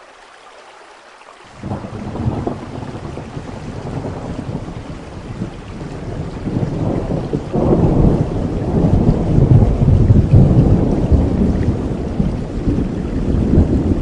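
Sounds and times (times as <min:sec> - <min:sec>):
steady rain: 0:00.0 - 0:14.0
thunder rumbling: 0:01.5 - 0:14.0.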